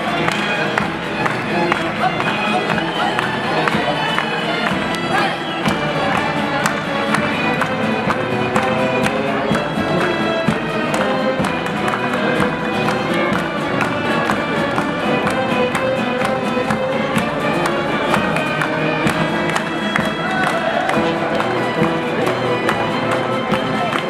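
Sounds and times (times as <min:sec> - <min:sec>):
folk ensemble playing: 0:00.0 - 0:24.0.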